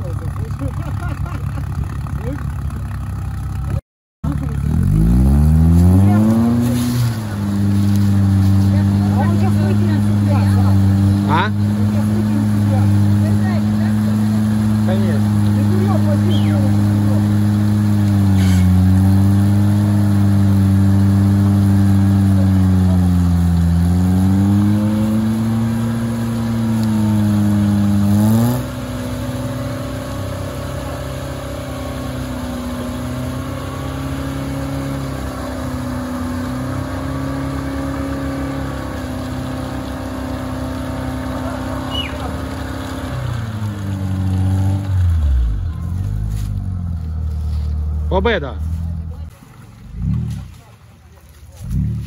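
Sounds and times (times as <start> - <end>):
car engine straining under load: 0.0 - 52.0.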